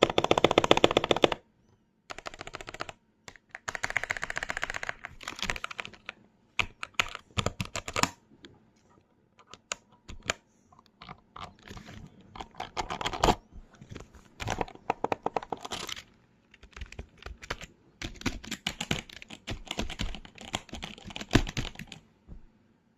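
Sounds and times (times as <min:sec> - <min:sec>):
computer keyboard typing: 0:00.0 - 0:01.4, 0:02.1 - 0:08.2, 0:09.4 - 0:13.5, 0:14.4 - 0:22.0.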